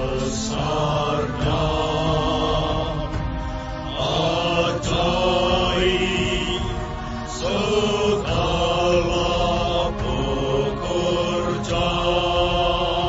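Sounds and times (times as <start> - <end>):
slow chant-like music: 0.0 - 13.0.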